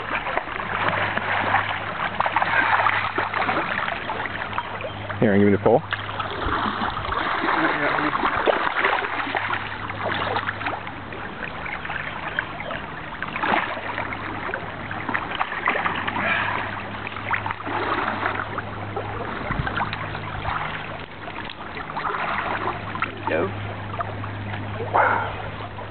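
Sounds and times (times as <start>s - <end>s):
fish thrashing and splashing: 0.0s - 5.0s, 5.9s - 25.9s
splashes of wading legs: 0.0s - 25.9s
stream running: 0.0s - 25.9s.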